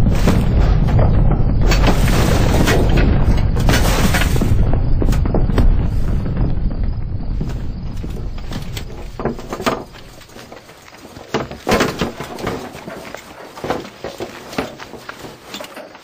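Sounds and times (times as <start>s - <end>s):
debris knocking and clattering: 0.0s - 16.0s
low stone rumble: 0.0s - 16.0s.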